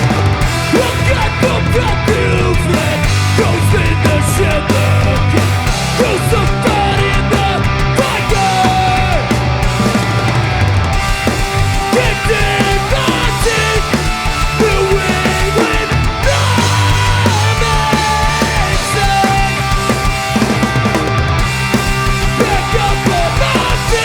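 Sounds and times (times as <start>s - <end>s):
bass guitar: 0.0s - 24.0s
distorted electric guitars: 0.0s - 24.0s
drums: 0.0s - 24.0s
punk band playing: 0.0s - 24.0s.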